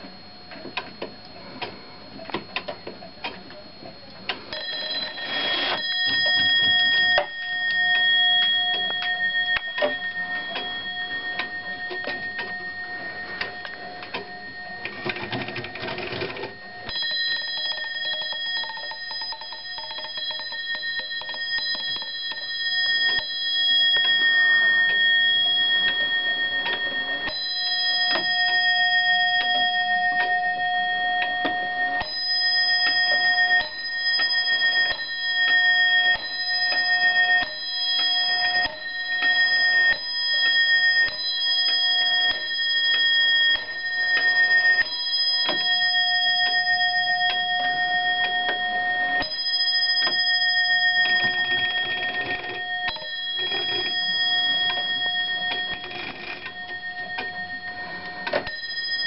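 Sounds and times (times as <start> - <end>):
clock alarm bell ringing: 0.0 - 59.0.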